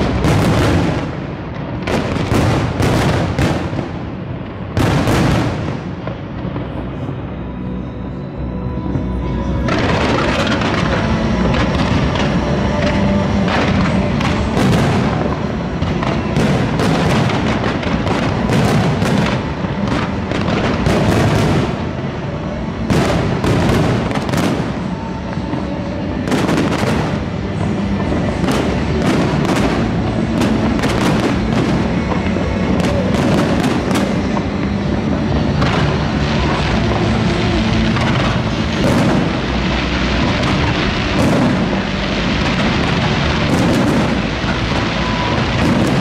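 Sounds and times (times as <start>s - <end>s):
fireworks bursting and crackling: 0.0s - 46.0s
music playing: 0.0s - 46.0s.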